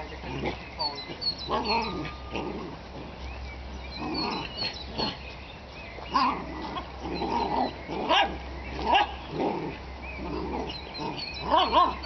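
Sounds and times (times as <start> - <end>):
dogs growling and barking: 0.0 - 3.3, 3.9 - 5.3, 6.1 - 12.0
small birds chirping: 0.0 - 12.0.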